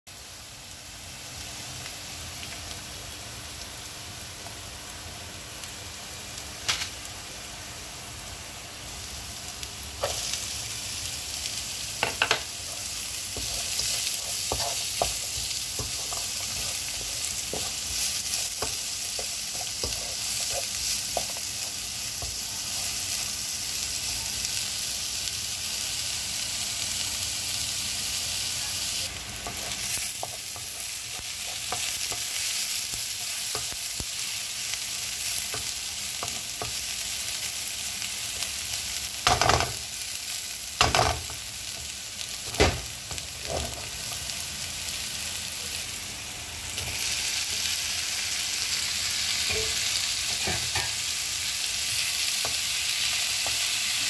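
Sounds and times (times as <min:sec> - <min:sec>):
garlic sizzling in hot oil: 0:00.1 - 0:54.0.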